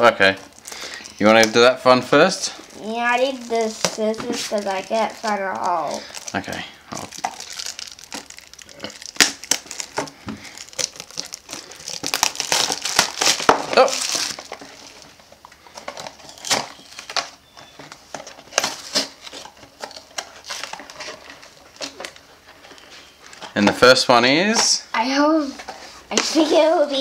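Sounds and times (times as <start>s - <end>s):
plastic wrap crinkling and tearing: 0.3s - 23.5s.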